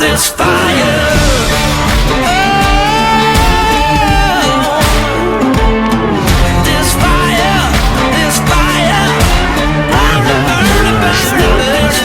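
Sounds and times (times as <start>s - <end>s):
song with singing guitar and drums: 0.0s - 12.0s.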